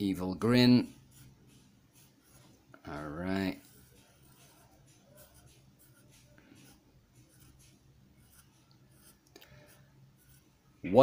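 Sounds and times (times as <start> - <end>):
marker scratching on paper: 0.4 - 10.6.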